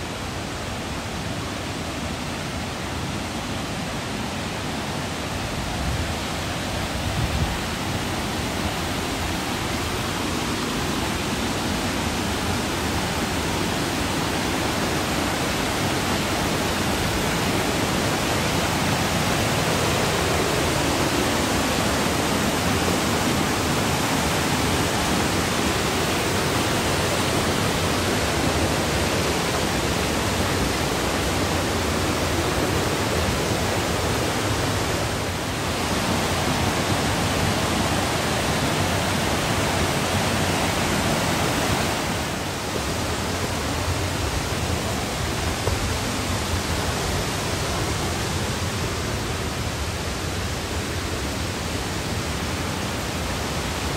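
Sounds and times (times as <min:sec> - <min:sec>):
stream rushing over rock: 0:00.0 - 0:53.9.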